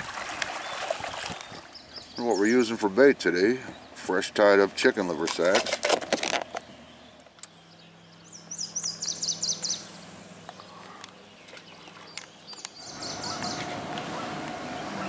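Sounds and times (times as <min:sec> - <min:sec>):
songbird singing: 0:00.4 - 0:15.0.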